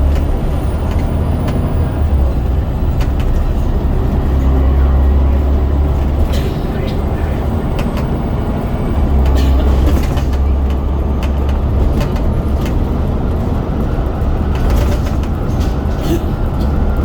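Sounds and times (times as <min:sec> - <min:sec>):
bodywork clicks and rattles: 0:00.0 - 0:17.0
bus diesel engine rumbling: 0:00.0 - 0:17.0.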